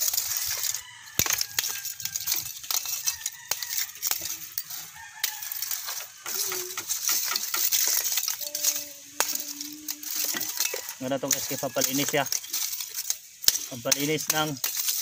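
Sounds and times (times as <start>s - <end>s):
charcoal lumps clinking: 0.0s - 15.0s.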